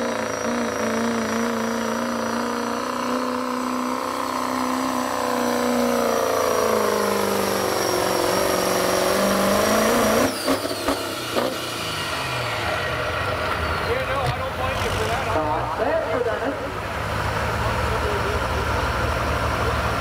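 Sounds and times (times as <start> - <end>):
diesel truck engine at full throttle: 0.0 - 20.0.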